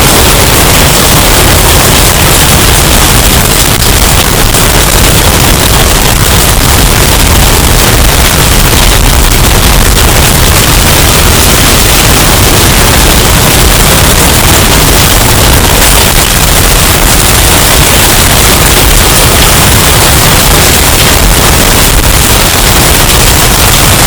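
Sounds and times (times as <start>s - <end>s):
distorted storm wind: 0.0s - 24.0s.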